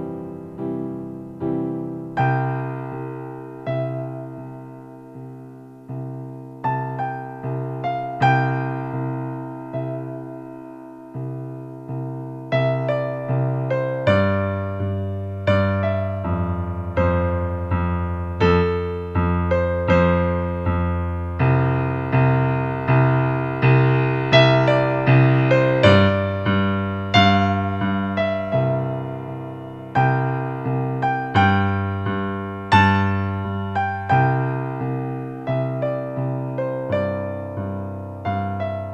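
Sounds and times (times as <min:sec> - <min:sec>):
slow gentle piano piece: 0:00.0 - 0:38.9.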